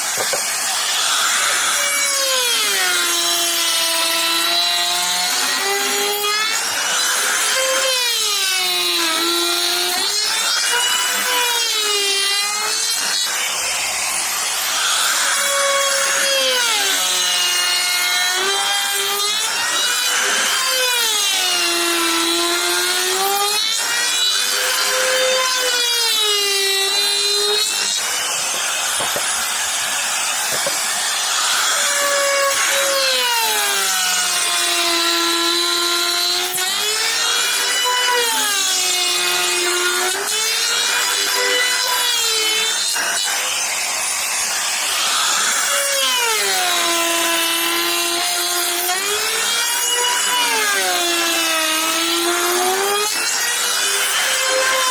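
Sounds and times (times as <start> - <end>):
power tool cutting wood: 0.0 - 54.9.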